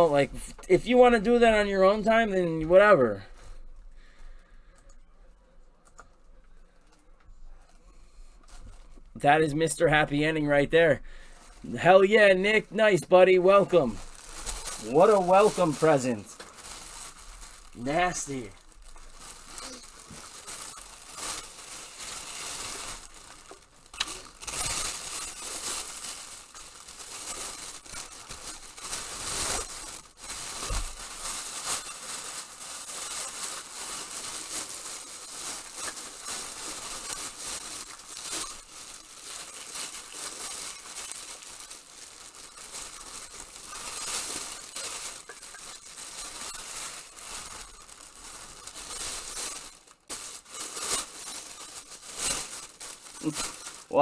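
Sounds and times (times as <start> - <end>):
plastic packaging crinkling: 8.4 - 54.0.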